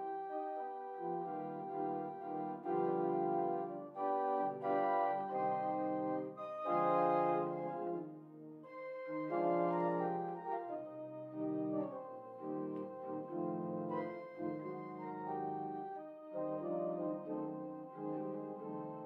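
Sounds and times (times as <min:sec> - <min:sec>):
pipe organ chords: 0:00.0 - 0:19.0.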